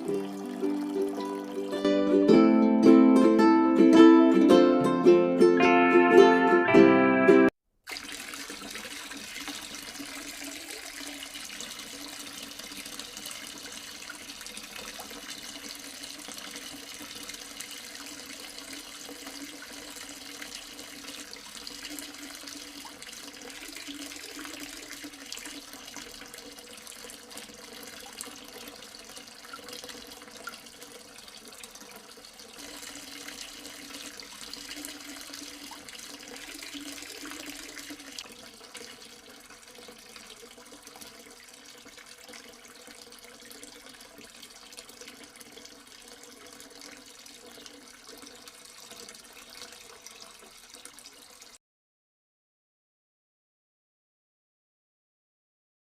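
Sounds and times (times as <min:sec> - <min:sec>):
water trickling in small fountain: 0:00.0 - 0:02.1, 0:07.8 - 0:51.6.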